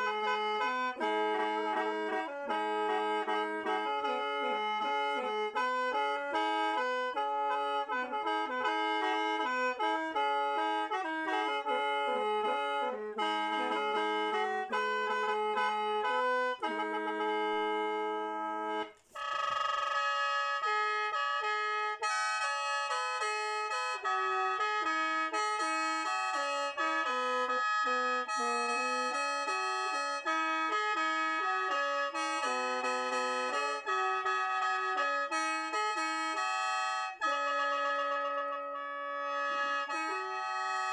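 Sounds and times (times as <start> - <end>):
bamboo mouth organ melody: 0.0 - 40.9.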